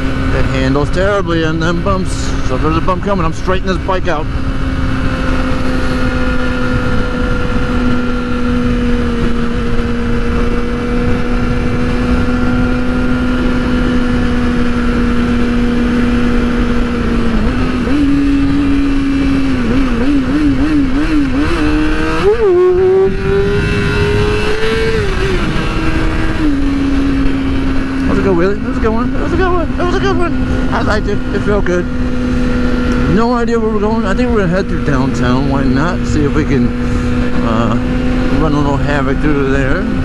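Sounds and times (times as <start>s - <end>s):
motorcycle engine revving: 0.0s - 40.0s
wind noise: 0.0s - 40.0s.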